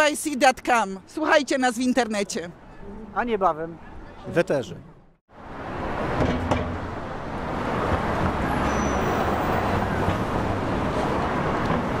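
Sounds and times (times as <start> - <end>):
city street noise: 0.0 - 12.0.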